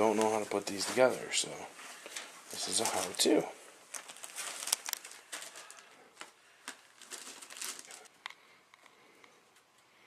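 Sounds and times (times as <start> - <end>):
packaging crinkling and rustling: 0.0 - 8.9.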